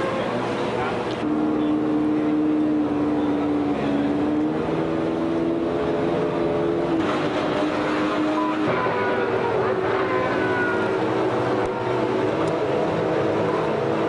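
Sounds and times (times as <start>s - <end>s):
racing car engine running: 0.0s - 14.0s.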